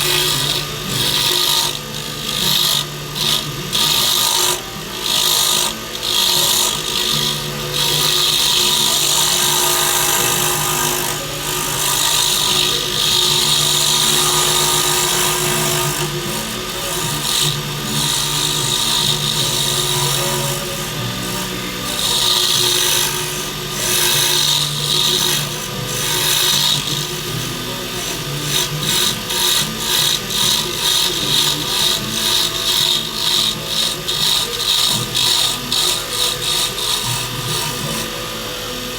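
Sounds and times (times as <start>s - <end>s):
lathe motor hum: 0.0s - 38.9s
lathe tool scraping wood: 0.0s - 38.9s.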